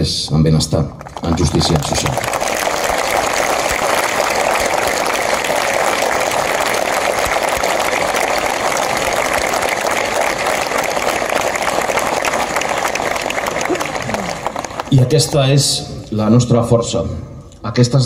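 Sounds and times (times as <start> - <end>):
crowd applauding: 0.9 - 15.7.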